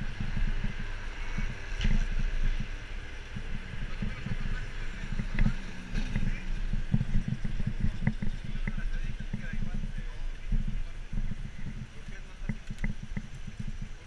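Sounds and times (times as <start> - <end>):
road and traffic noise: 0.0 - 14.0
wind buffeting microphone: 0.0 - 14.0.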